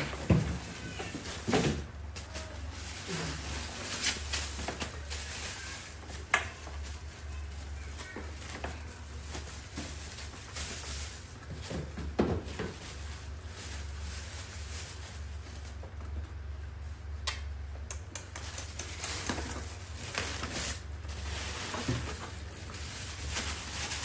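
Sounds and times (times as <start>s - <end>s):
plastic bags crinkling: 0.0s - 16.8s, 18.7s - 24.0s
plastic basket rustling: 0.0s - 17.1s, 18.7s - 24.0s.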